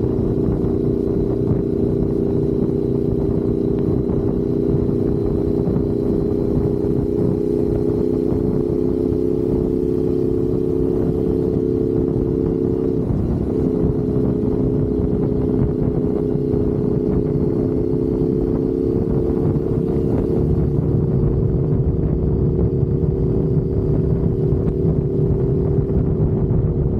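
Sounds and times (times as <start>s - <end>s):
motorcycle engine cruising: 0.0s - 26.9s
wind and road rumble: 0.0s - 26.9s.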